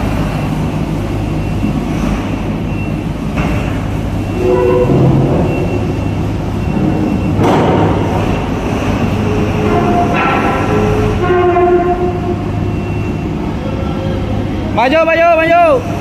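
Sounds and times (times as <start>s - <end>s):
diesel engines rumbling: 0.0s - 16.0s.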